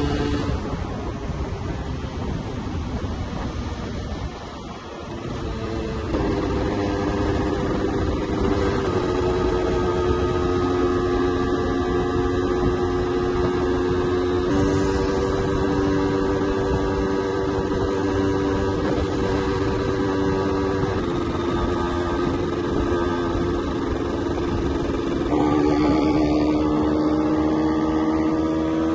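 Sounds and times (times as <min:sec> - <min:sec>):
two-stroke motorbike engine revving: 0:00.0 - 0:01.1, 0:05.0 - 0:28.9
wind and road noise: 0:00.0 - 0:28.9.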